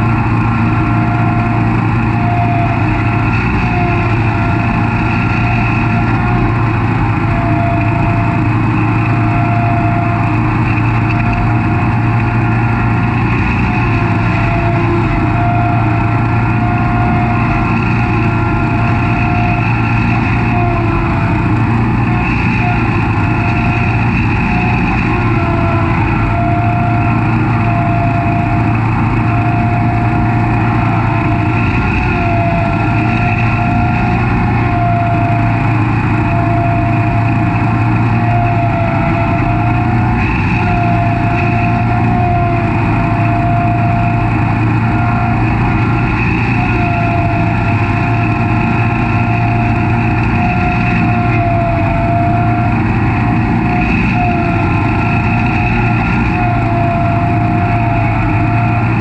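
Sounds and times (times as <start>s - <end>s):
mower engine drone: 0.0s - 59.0s
steady high whine: 0.0s - 59.0s.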